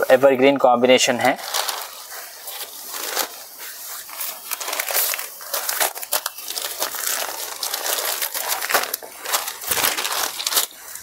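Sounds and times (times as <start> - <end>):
fabric rustling and crinkling: 0.0 - 11.0.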